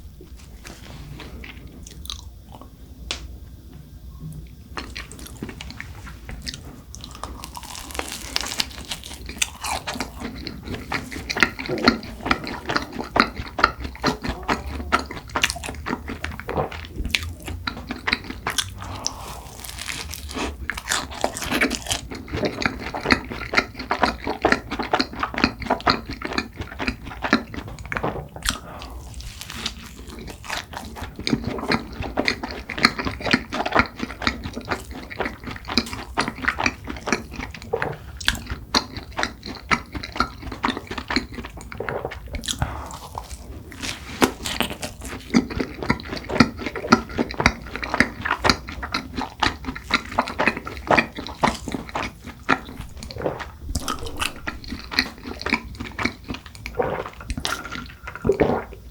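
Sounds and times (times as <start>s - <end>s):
person chewing crisp pastry: 0.0s - 2.7s, 4.7s - 58.9s.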